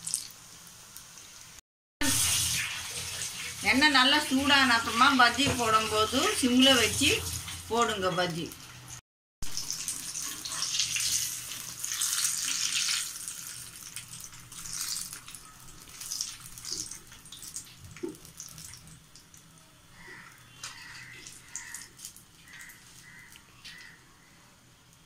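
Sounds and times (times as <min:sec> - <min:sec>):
deep-frying sizzle with crackles: 0:00.0 - 0:25.0.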